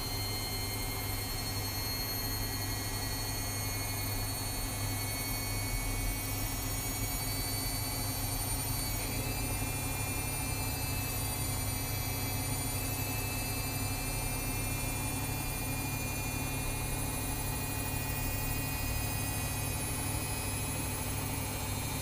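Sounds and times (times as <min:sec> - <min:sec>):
high-pitched electronic whines: 0:00.0 - 0:22.0
washing machine motor hum: 0:00.0 - 0:22.0.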